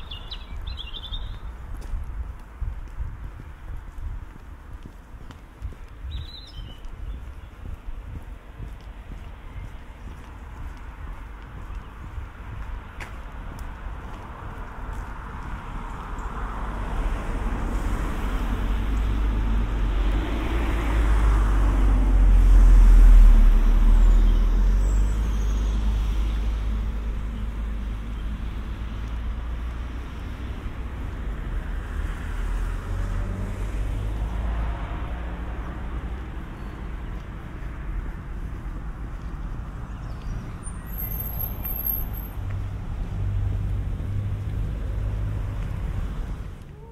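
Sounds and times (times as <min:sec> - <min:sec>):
quieter car passing: 0:00.0 - 0:46.9
car passing: 0:08.7 - 0:46.9.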